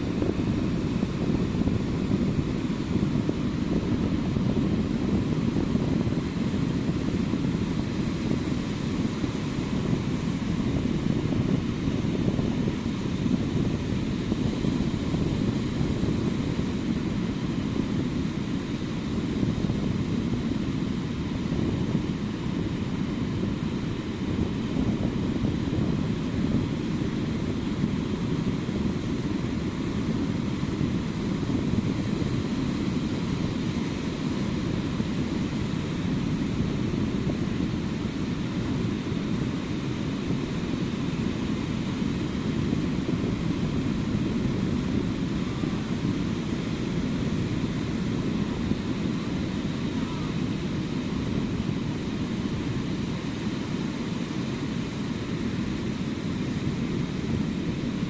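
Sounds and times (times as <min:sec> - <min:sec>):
ocean surf rumbling: 0:00.0 - 0:58.0.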